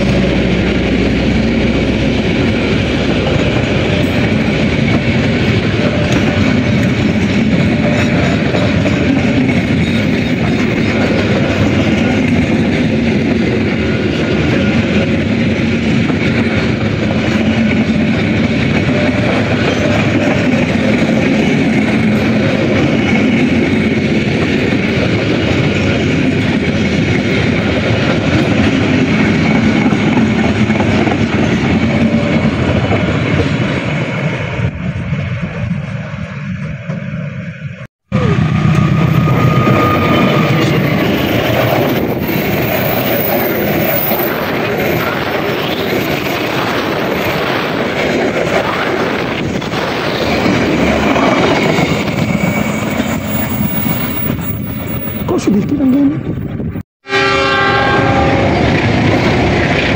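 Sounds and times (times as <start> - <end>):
train wheels rumbling on rails: 0.0 - 56.8, 57.6 - 59.9.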